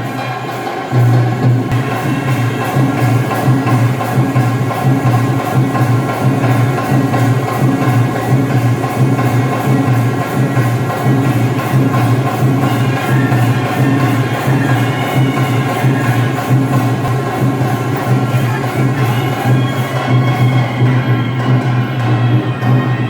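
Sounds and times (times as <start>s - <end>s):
background music with steady beat: 0.0s - 23.0s.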